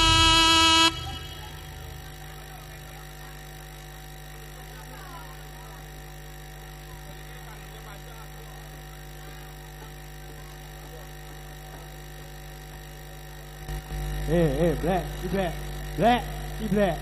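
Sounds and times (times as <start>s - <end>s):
loudspeaker electrical hum: 0.0s - 17.0s.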